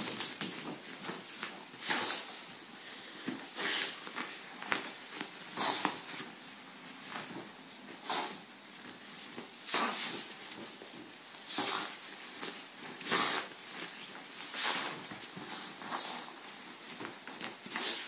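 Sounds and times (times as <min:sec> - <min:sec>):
fabric rustling: 0:00.0 - 0:18.0.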